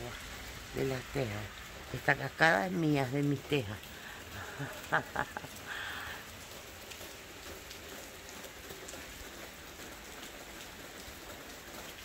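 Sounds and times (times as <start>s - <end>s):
heavy rain: 0.0s - 12.0s
water dripping off roof: 0.0s - 12.0s.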